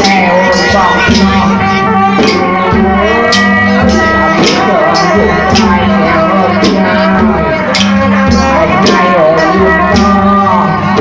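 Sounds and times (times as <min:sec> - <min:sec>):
sharp drum strokes: 0:00.0 - 0:11.0.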